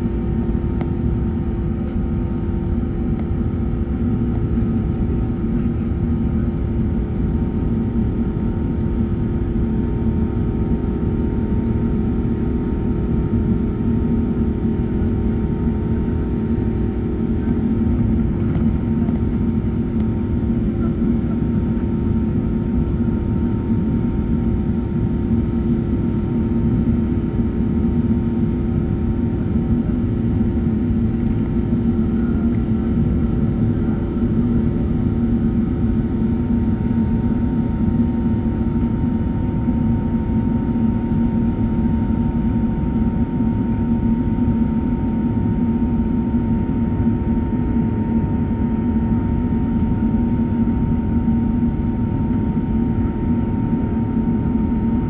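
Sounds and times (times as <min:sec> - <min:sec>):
jet engines and airflow roar: 0:00.0 - 0:55.0.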